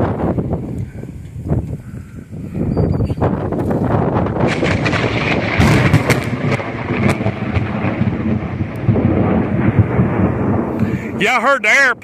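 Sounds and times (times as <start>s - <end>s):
thunder rumbling and crackling: 0.0s - 12.0s.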